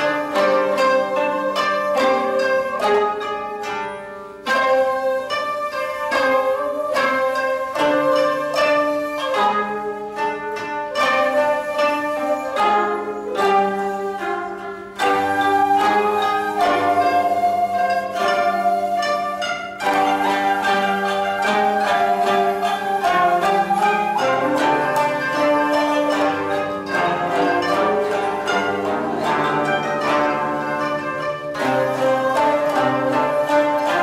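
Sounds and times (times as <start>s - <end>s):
koto ensemble plucking: 0.0s - 34.0s
low bass koto notes: 0.0s - 34.0s
shamisen: 0.0s - 34.0s.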